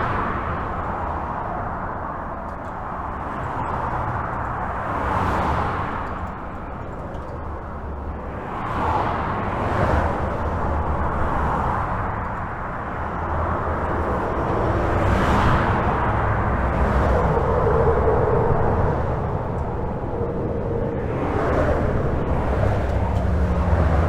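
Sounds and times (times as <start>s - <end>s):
highway traffic rushing: 0.0s - 24.0s
passing vehicle hum: 0.0s - 24.0s.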